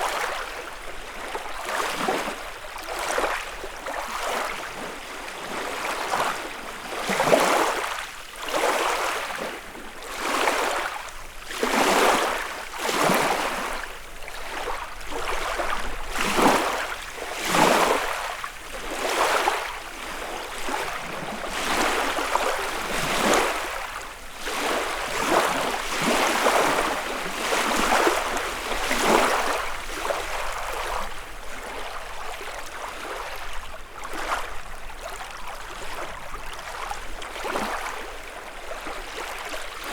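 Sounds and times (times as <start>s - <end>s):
lake waves lapping on shore: 0.0s - 39.9s.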